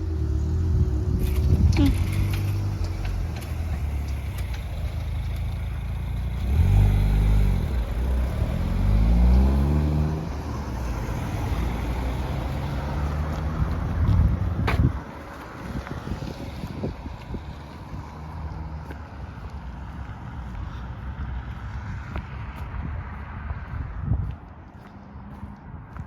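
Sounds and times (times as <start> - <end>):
engine accelerating away: 0.0 - 14.6, 15.7 - 24.2
road vehicles running: 0.0 - 26.0.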